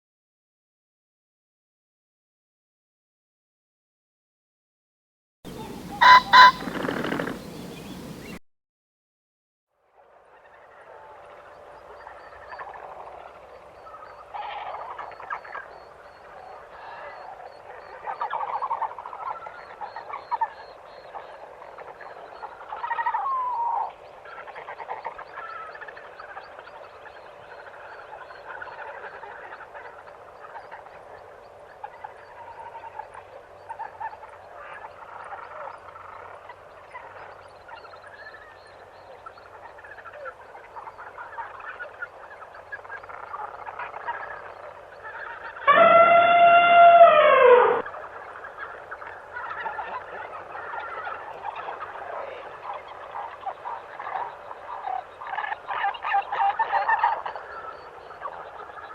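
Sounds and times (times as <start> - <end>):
chorus of animal calls: 5.5 - 8.4, 10.3 - 58.9.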